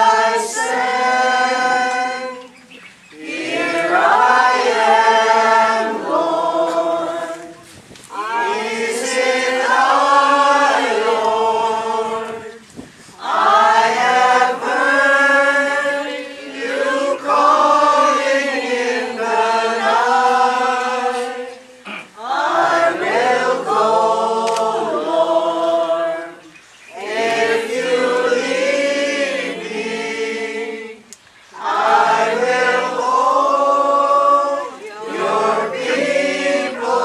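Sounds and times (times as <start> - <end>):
congregation singing a hymn: 0.0 - 37.0.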